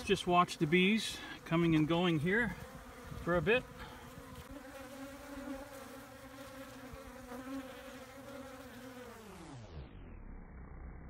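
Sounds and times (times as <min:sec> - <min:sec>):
bees buzzing in a swarm: 0:00.0 - 0:10.1.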